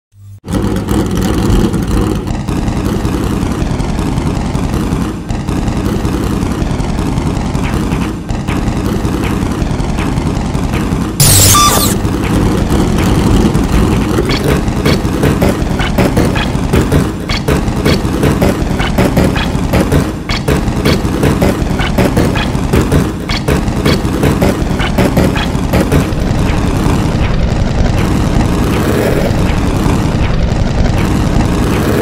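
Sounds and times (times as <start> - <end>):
race car engine running: 0.2 - 32.0.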